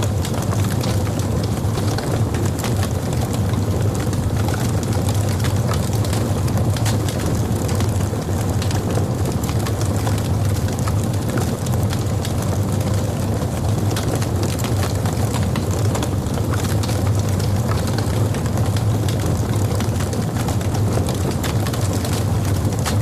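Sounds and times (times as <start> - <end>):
fire crackling and popping: 0.0 - 23.0
wood fire rumbling: 0.0 - 23.0.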